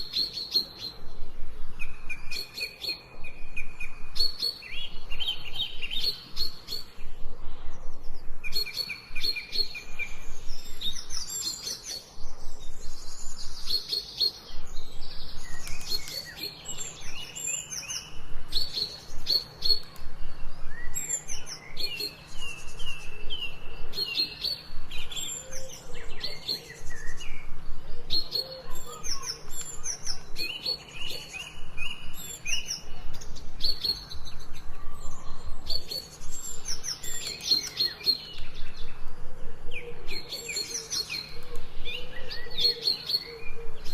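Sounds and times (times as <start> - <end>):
songbirds chirping and singing: 0.0 - 43.9.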